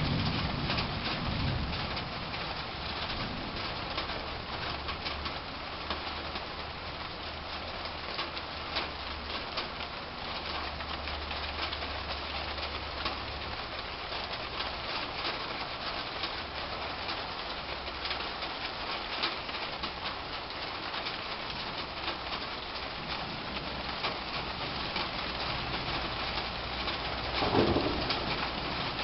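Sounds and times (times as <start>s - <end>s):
rain on foliage: 0.0s - 29.0s.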